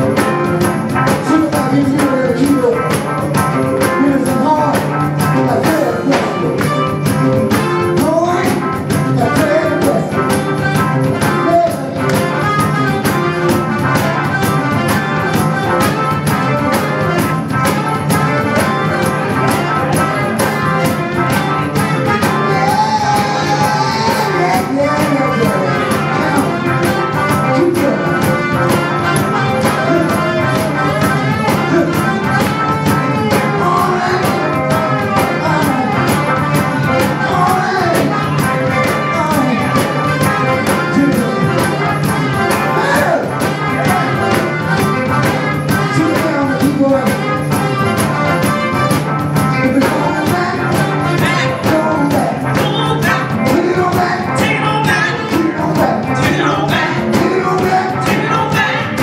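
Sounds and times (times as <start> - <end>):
bass guitar: 0.0 - 59.0
drum kit beat: 0.0 - 59.0
electric guitars: 0.0 - 59.0
person singing: 1.0 - 13.6, 18.4 - 59.0.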